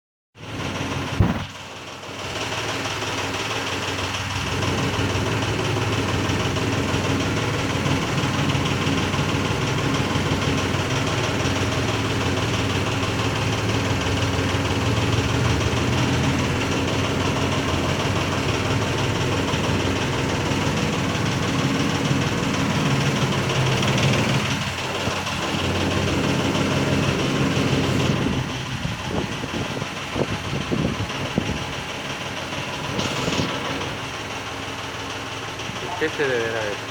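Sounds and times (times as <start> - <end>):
car engine idling: 0.4 - 36.9.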